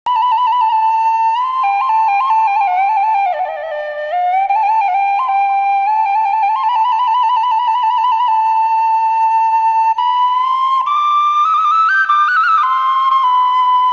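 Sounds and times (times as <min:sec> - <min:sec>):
solo flute melody with trills: 0:00.1 - 0:13.9.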